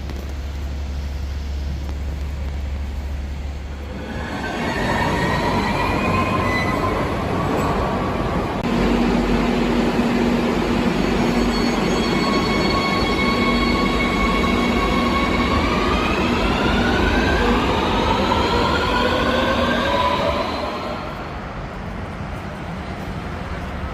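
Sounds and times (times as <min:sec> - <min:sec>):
electric train rumbling: 0:00.0 - 0:23.9.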